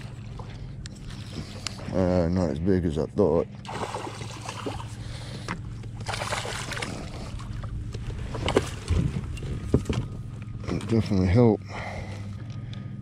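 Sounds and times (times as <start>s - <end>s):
water splashing and sloshing: 0.0s - 2.4s, 3.4s - 12.6s
steady low hum: 0.0s - 13.0s.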